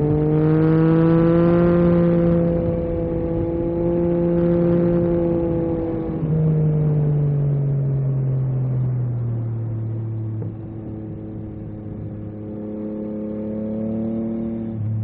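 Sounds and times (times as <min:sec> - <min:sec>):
motorcycle engine riding: 0:00.0 - 0:15.0.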